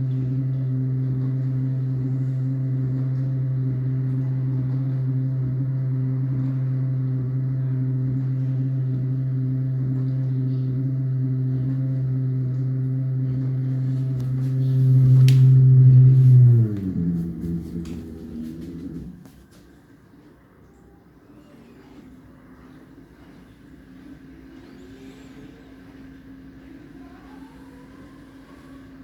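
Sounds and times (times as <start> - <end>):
dishwasher pump motor humming: 0.0 - 20.4, 21.9 - 29.0.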